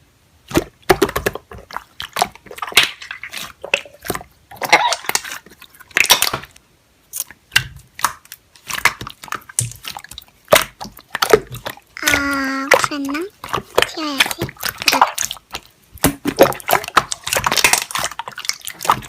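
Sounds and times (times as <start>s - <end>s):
slime squishing and clicking: 0.5s - 19.0s.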